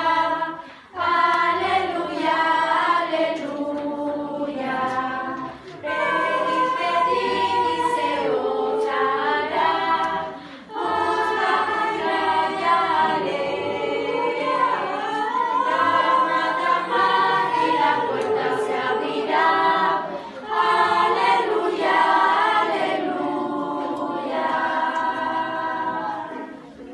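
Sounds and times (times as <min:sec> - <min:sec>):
school choir singing: 0:00.0 - 0:26.9.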